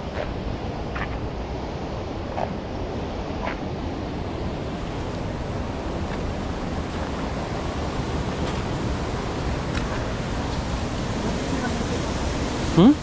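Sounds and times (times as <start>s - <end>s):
river rushing: 0.0s - 13.0s
wind buffeting microphone: 0.0s - 13.0s.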